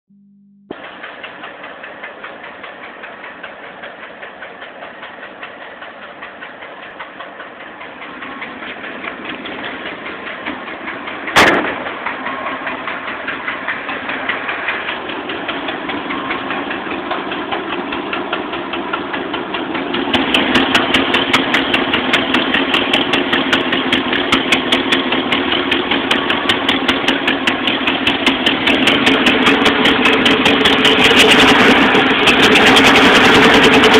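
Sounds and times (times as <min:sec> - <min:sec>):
engine running: 0:00.1 - 0:33.9
rhythmic engine popping: 0:00.7 - 0:33.9.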